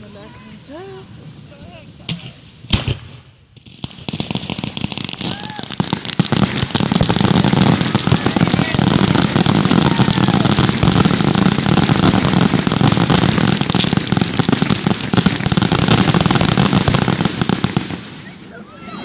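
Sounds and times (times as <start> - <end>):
fireworks crackling bangs: 0.0 - 19.0.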